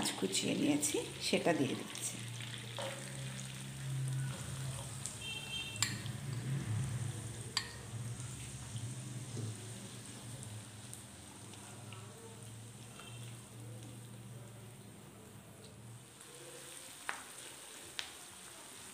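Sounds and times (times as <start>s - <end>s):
onions sizzling in oil: 0.0s - 14.3s, 16.1s - 18.9s.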